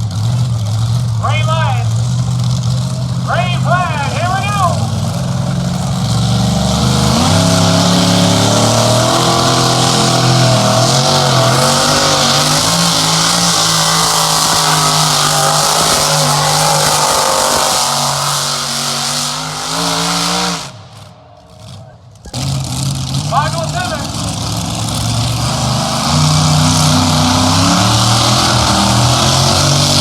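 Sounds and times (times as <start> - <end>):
engine at full throttle under load: 0.0 - 30.0.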